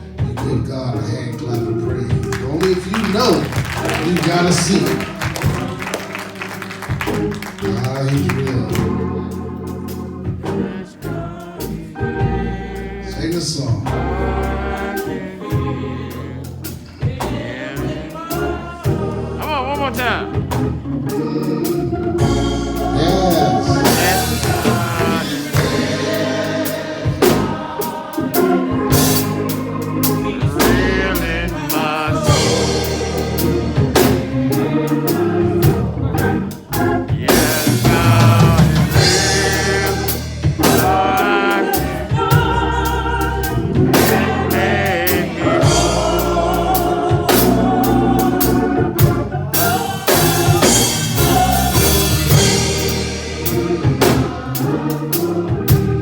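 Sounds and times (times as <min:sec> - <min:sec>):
choir singing gospel: 0:00.0 - 0:56.0
drum kit: 0:00.0 - 0:56.0
organ: 0:00.0 - 0:56.0.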